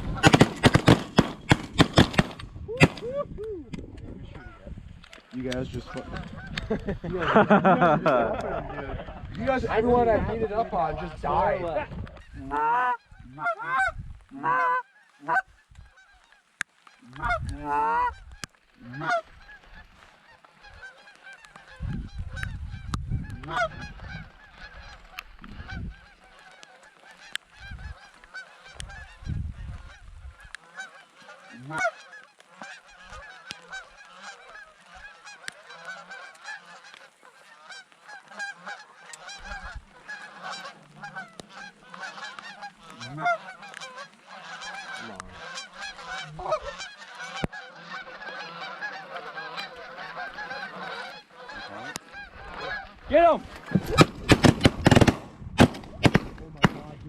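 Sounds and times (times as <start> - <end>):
geese honking: 0.0 - 3.0, 5.6 - 7.0, 9.6 - 57.0.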